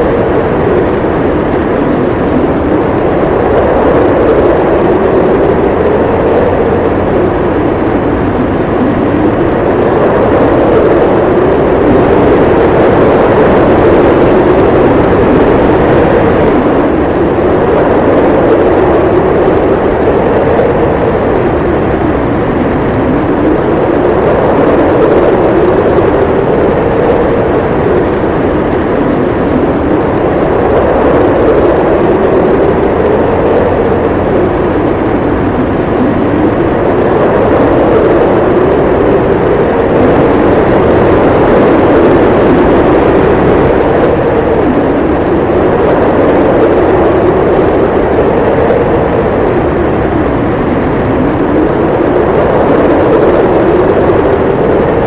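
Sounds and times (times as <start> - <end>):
howling snowstorm wind: 0.0 - 55.0.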